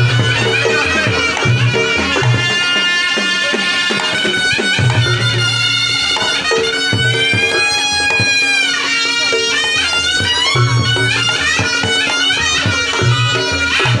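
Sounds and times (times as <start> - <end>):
drums and gongs: 0.0 - 14.0
shawm playing ornamented melody: 0.0 - 14.0.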